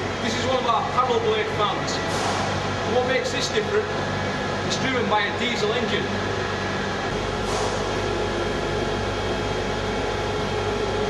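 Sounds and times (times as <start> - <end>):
workshop machinery hum: 0.0 - 11.0.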